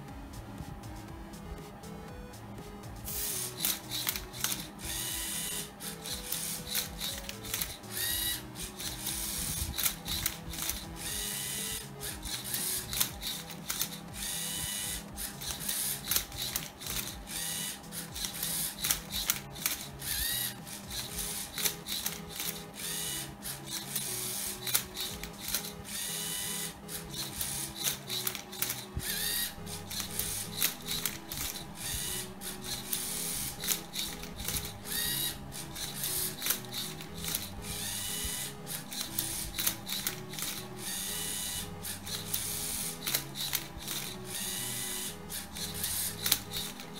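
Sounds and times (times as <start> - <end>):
background music: 0.0 - 46.9
servo motors whirring: 2.9 - 46.9
plastic gears clicking: 3.1 - 46.9.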